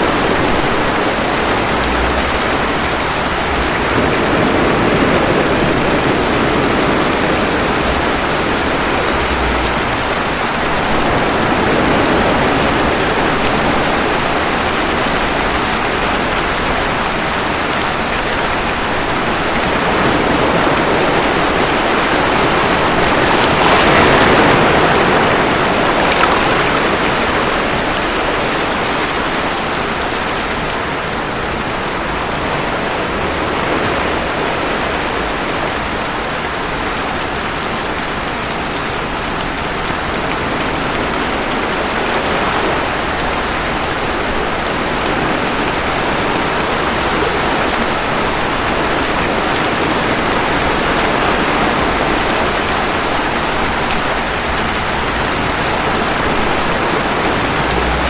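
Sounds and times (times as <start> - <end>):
ocean waves washing ashore: 0.0 - 58.0
steady rain: 0.0 - 58.0.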